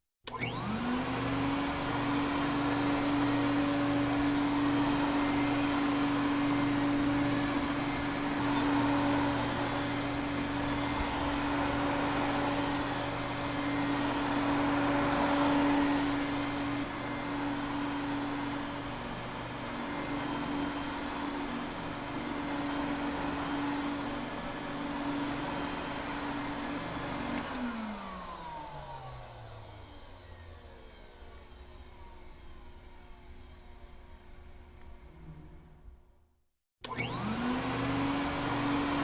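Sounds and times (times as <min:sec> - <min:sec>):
vacuum cleaner motor running: 0:00.3 - 0:35.8, 0:36.8 - 0:39.0.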